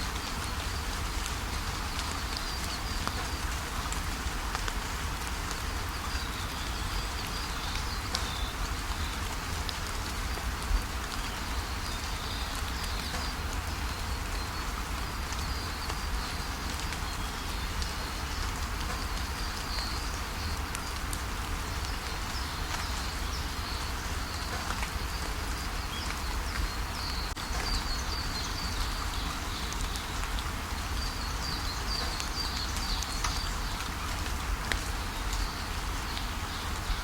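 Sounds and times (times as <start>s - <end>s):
steady rain falling: 0.0s - 37.0s
small birds chirping: 5.6s - 10.2s, 10.8s - 37.0s.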